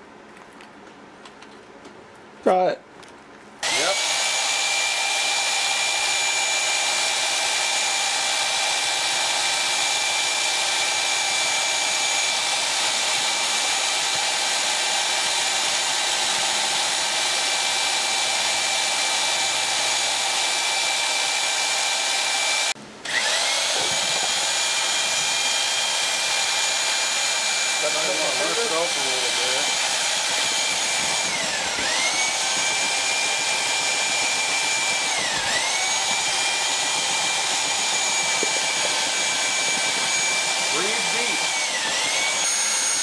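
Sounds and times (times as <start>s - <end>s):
electric drill mixing whine: 3.6s - 43.0s.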